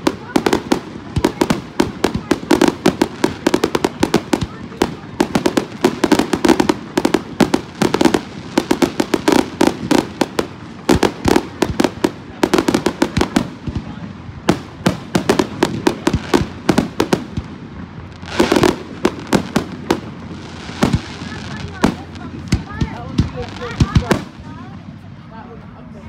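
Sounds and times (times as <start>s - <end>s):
fireworks popping and crackling: 0.0s - 25.0s.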